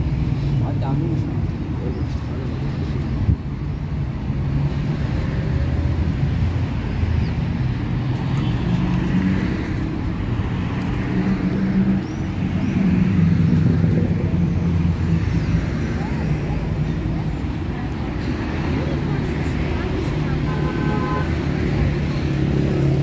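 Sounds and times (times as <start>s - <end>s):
car engines running: 0.0s - 23.0s
vehicle passing: 4.1s - 23.0s.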